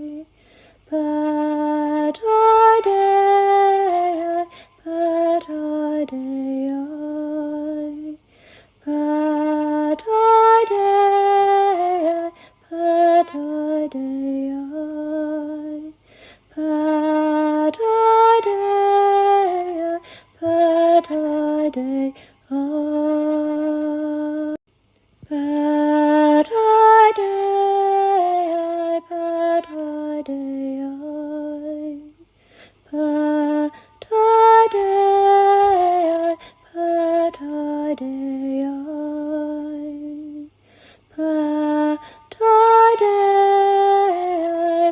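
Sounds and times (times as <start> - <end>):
woman singing unaccompanied: 0.0 - 24.6, 25.2 - 44.9.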